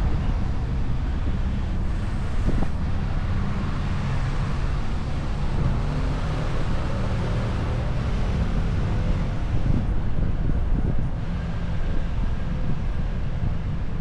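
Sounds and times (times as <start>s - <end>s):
car engine and road noise: 0.0s - 14.0s
wind on microphone: 0.0s - 14.0s.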